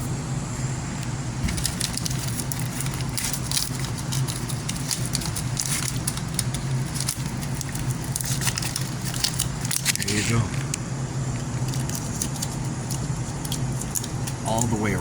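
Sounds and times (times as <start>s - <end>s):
steady low hum: 0.0s - 15.0s
foil tape crackling: 1.4s - 10.7s, 11.5s - 15.0s.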